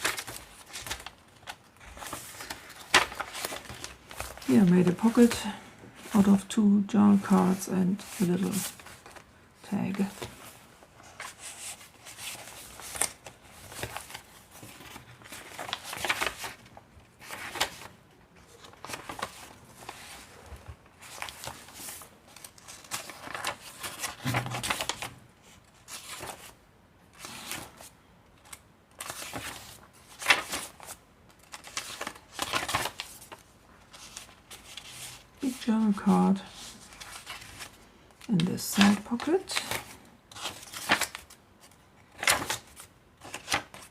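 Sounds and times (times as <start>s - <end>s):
paper rustling and crinkling: 0.0s - 6.5s, 7.1s - 43.9s.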